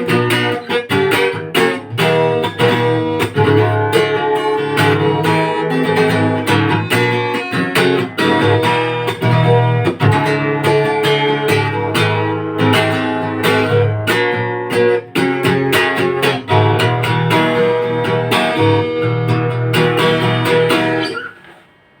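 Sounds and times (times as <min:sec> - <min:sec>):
guitar strumming chords: 0:00.0 - 0:21.6.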